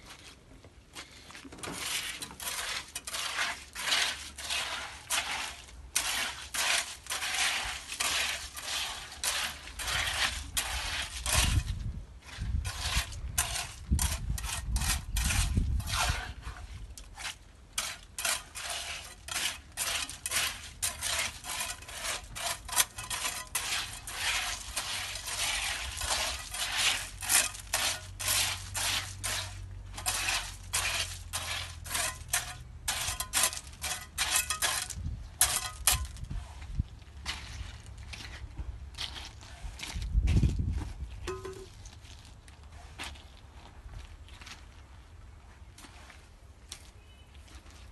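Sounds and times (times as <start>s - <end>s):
trowel scraping wet concrete: 1.0s - 40.6s, 41.2s - 43.2s.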